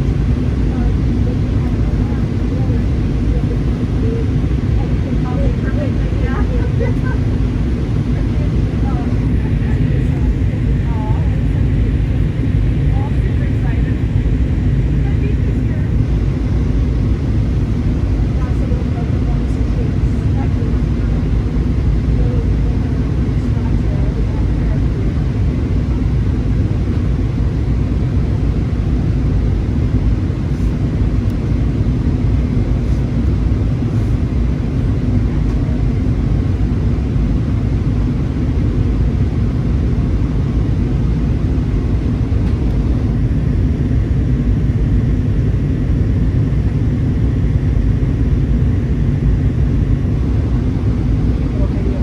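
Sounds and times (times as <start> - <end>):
airflow over fuselage: 0.0 - 52.0
faint steady hum: 0.0 - 52.0
jet engines rumbling: 0.0 - 52.0.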